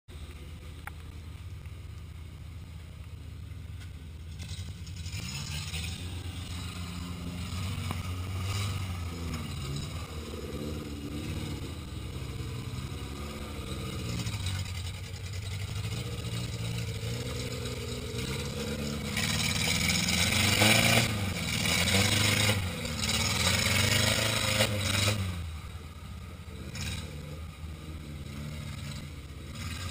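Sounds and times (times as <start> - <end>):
engine revving under load: 4.2 - 29.9.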